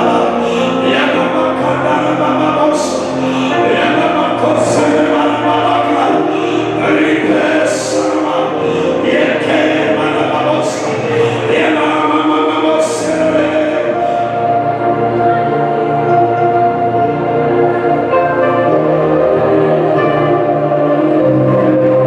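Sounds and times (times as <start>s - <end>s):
choir singing gospel song: 0.0s - 22.0s.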